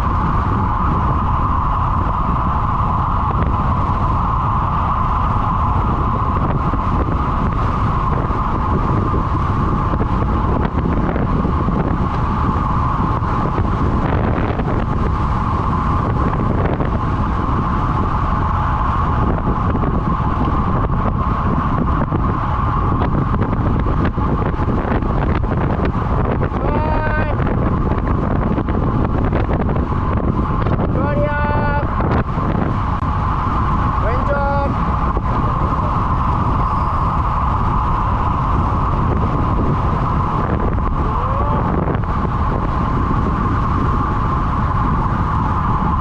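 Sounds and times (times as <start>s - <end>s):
steady mid-pitched hum: 0.0s - 46.0s
wind rushing over microphone: 0.0s - 46.0s.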